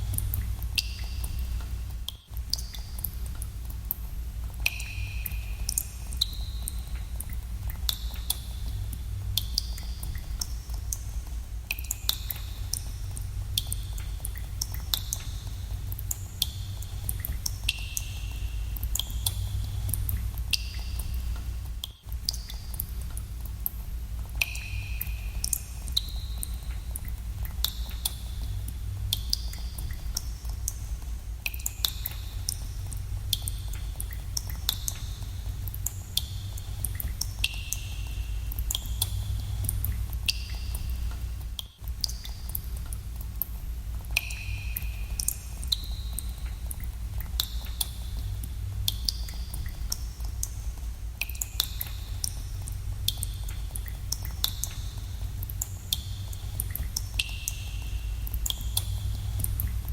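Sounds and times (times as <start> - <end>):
steady low rumble: 0.0 - 59.9
water drops dripping in a cave: 0.0 - 59.9.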